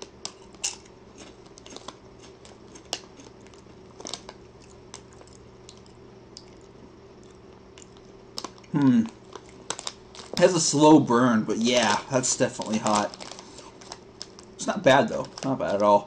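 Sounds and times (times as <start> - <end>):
faint steady hum: 0.0 - 16.0
potato chip crunching: 0.2 - 10.8, 11.6 - 16.0.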